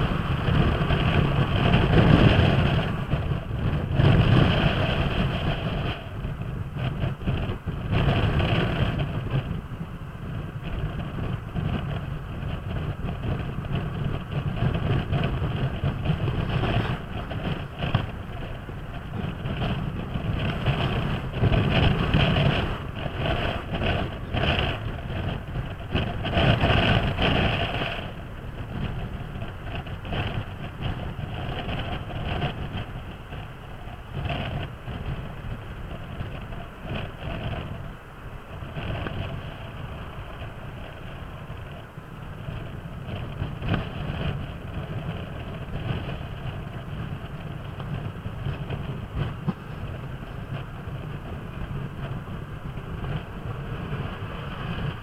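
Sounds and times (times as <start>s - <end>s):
scooter engine running: 0.0s - 55.0s
wind rushing over microphone: 0.0s - 55.0s.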